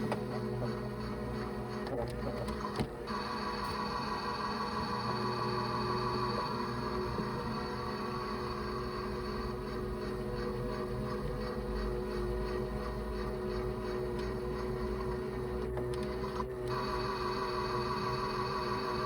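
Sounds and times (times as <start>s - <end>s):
small electric motor whirring: 0.0s - 19.0s.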